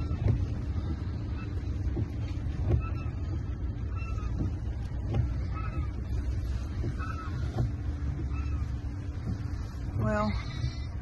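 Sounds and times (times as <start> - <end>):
engine and road rumble: 0.0 - 11.0
windshield wipers squeaking: 0.0 - 11.0.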